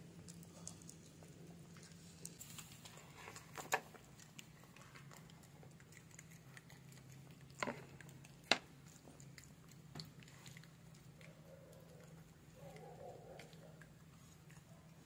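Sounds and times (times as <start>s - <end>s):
puppies eating and stepping: 0.0s - 15.0s.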